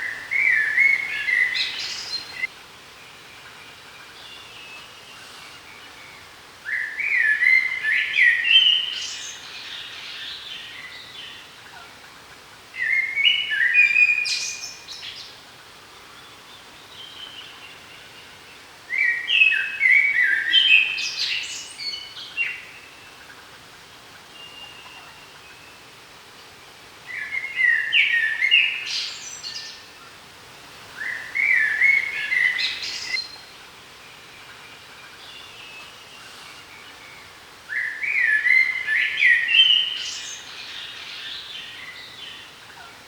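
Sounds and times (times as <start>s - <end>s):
songbird singing: 0.0s - 11.8s, 16.0s - 43.0s.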